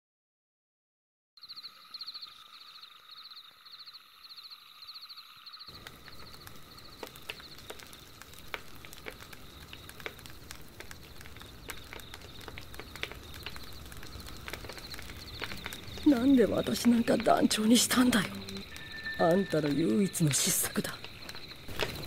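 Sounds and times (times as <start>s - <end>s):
crickets chirping: 1.4s - 22.0s
campfire crackling and popping: 1.5s - 22.0s.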